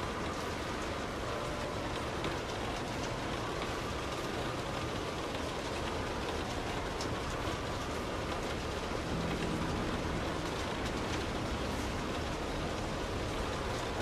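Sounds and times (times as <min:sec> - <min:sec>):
rain on car roof: 0:00.0 - 0:14.0.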